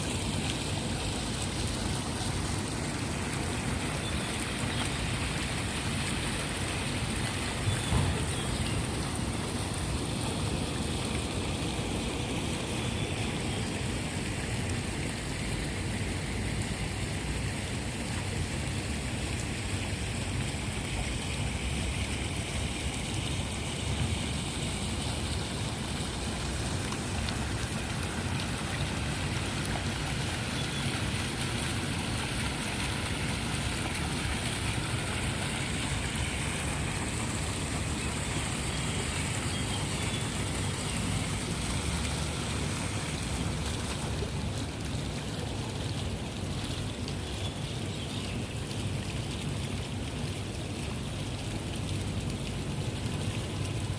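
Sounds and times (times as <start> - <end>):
water flowing: 0.0 - 53.9.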